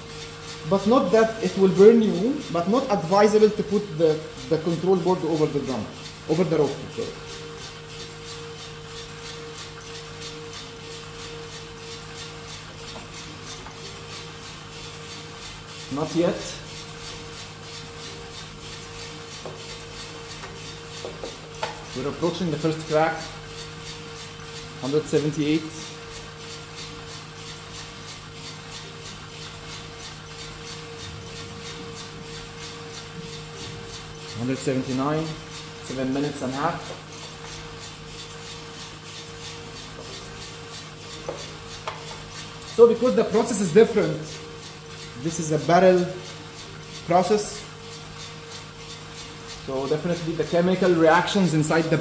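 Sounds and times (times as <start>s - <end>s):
coffee roaster humming: 0.0s - 52.0s.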